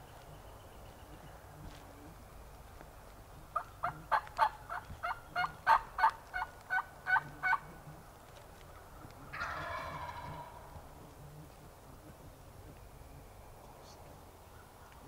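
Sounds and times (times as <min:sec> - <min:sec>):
turkey calls: 0:00.0 - 0:15.0.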